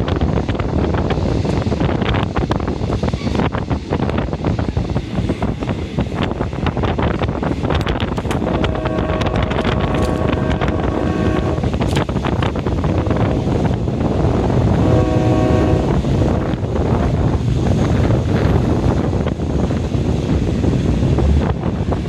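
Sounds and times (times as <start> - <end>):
train rumble: 0.0 - 22.0
wind on microphone: 0.0 - 22.0.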